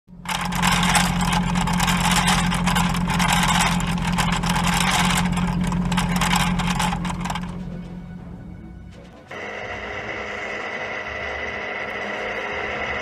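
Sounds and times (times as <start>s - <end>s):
engine-like mechanical rumble: 0.1s - 13.0s.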